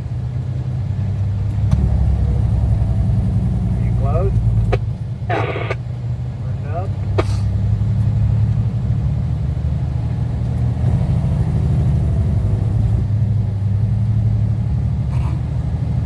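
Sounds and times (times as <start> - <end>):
truck diesel engine rumble: 0.0 - 16.0.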